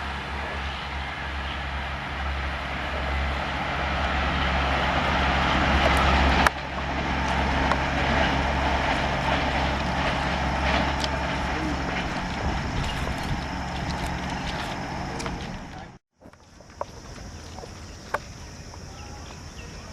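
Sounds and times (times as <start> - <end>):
electric train running past: 0.0 - 16.0.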